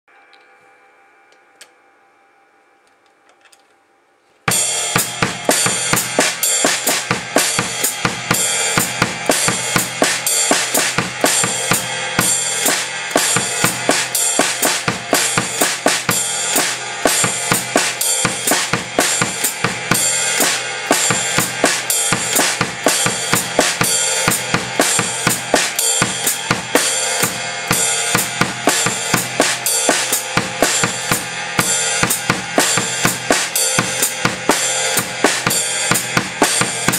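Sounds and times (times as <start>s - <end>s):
bass drum and snare: 4.5s - 36.9s
ride cymbal: 4.5s - 36.9s.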